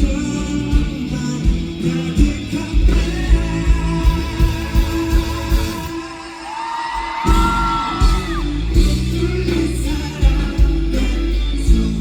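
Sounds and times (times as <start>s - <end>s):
person singing: 0.0s - 12.0s
rock band playing live: 0.0s - 12.0s.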